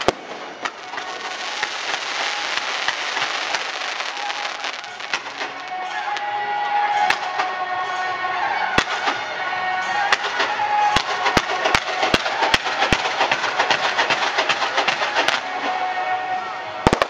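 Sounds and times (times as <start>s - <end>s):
fireworks bangs: 0.0s - 7.6s, 8.8s - 9.3s, 9.9s - 16.1s, 16.8s - 17.0s
fireworks crackling: 0.0s - 8.0s, 8.8s - 17.0s
music: 0.0s - 17.0s.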